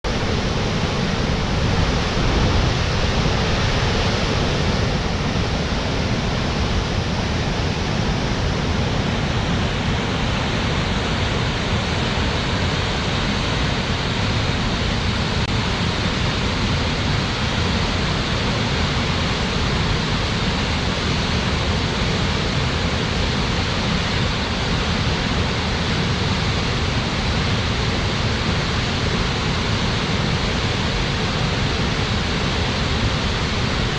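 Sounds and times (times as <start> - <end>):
waterfall crashing into pool: 0.1 - 33.9.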